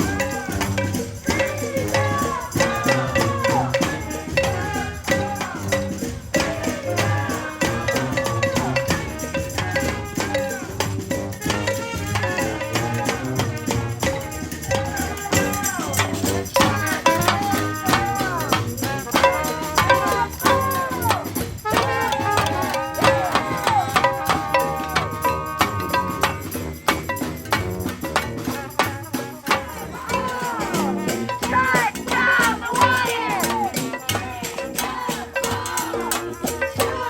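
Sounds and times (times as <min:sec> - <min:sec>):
rattling shakers: 0:00.0 - 0:37.0
steady drumming: 0:00.0 - 0:37.0.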